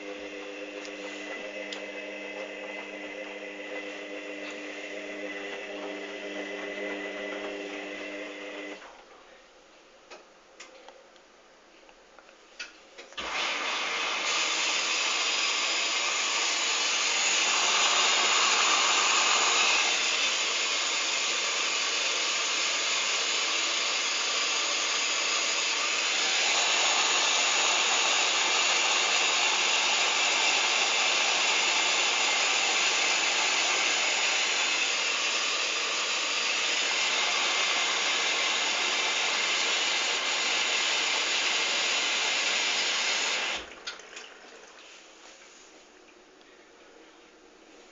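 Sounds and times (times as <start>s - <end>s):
washing machine filling with water: 0.0s - 8.8s, 13.2s - 46.1s.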